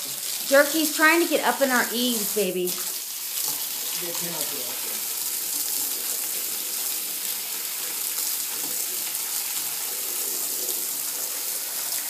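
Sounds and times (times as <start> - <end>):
garden hose spraying water: 0.0 - 12.0.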